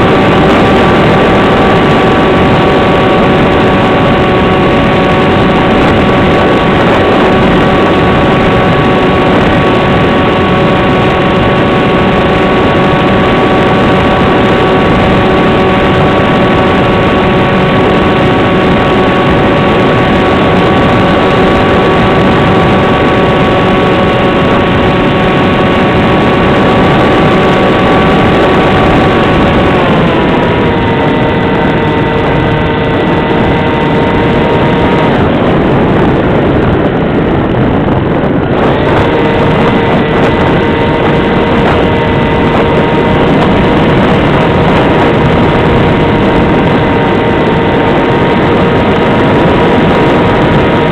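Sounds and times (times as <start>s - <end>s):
model plane motor whine: 0.0s - 50.9s
propeller rushing noise: 0.0s - 50.9s.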